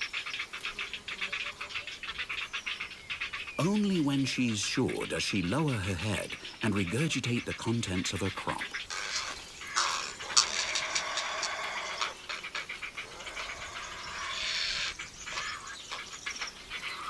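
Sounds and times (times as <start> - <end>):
heron chicks rasping begging calls: 0.0 - 17.0.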